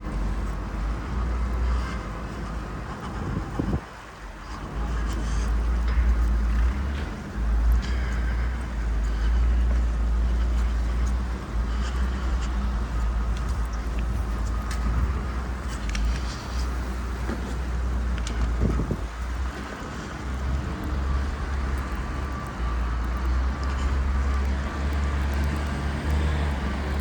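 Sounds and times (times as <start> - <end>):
wind buffeting microphone: 0.0 - 27.0
faint clicks and crunches: 0.1 - 27.0.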